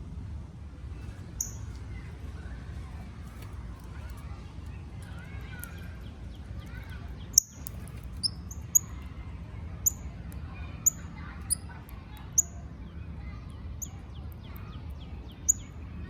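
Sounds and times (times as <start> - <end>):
other birds calling faintly: 0.8 - 16.0.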